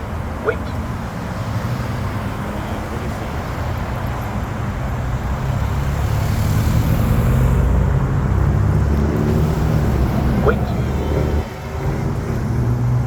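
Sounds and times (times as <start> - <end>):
passing vehicles engine hum: 0.0 - 13.0.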